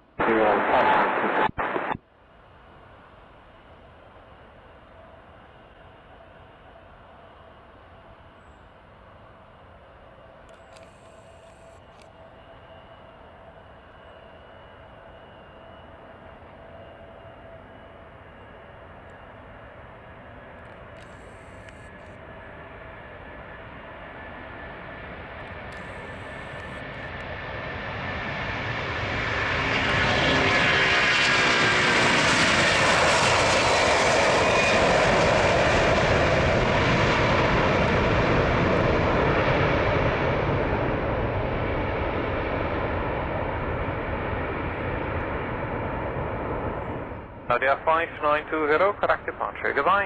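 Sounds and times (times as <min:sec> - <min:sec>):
airliner taking off: 0:00.0 - 0:10.3, 0:12.4 - 0:50.0.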